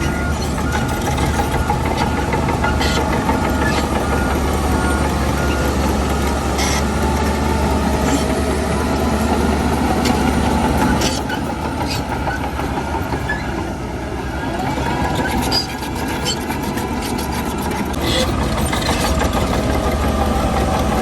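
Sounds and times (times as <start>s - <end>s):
diesel engine drone: 0.0s - 21.0s.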